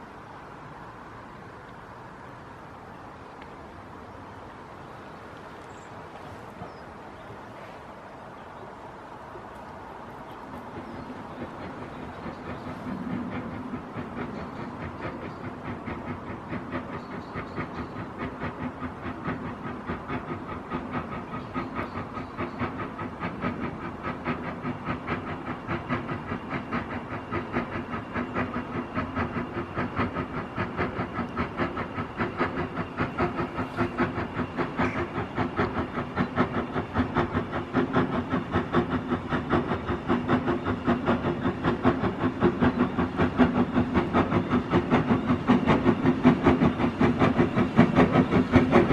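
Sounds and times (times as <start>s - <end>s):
steam locomotive exhaust beats: 0.0s - 48.9s.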